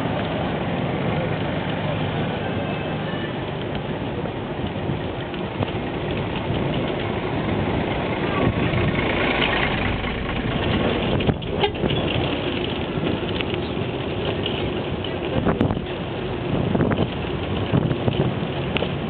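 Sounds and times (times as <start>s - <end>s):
city traffic rumble: 0.0s - 19.0s
diesel bus engine idling: 0.0s - 19.0s.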